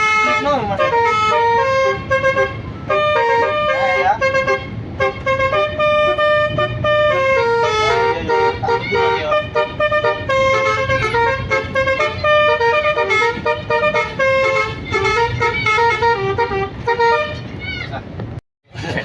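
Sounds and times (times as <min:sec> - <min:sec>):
bus multi-tone horn melody: 0:00.0 - 0:17.6.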